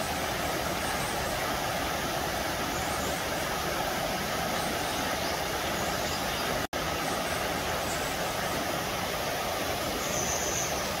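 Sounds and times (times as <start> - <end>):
rocky stream rushing: 0.0 - 11.0.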